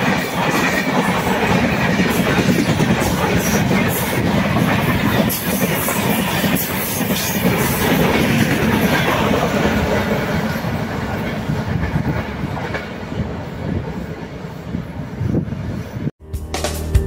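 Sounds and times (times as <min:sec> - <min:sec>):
train rolling past: 0:00.0 - 0:16.1.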